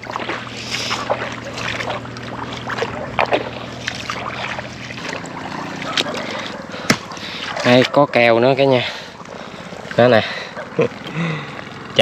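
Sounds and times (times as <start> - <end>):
footsteps sloshing through water: 0.0 - 12.0.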